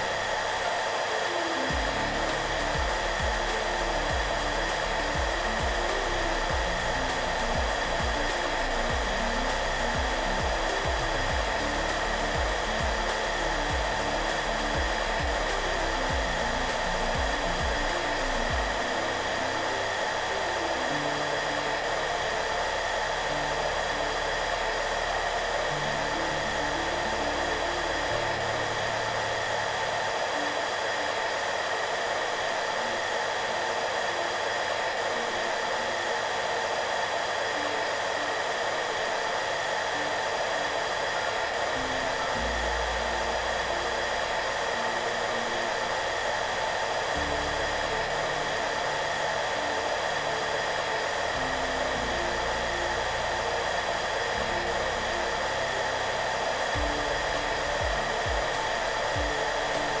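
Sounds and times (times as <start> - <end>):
hair dryer running: 0.0 - 60.0
soft background music: 0.0 - 60.0.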